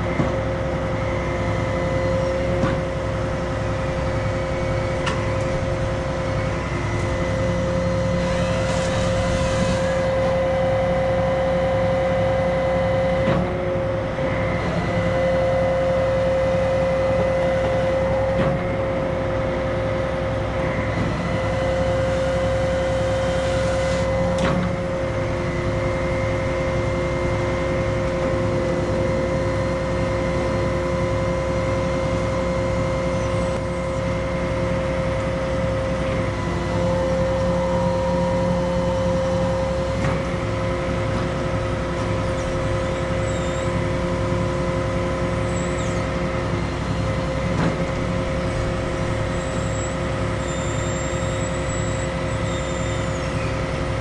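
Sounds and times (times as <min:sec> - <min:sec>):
crane engine and hydraulics whining: 0:00.0 - 0:54.0.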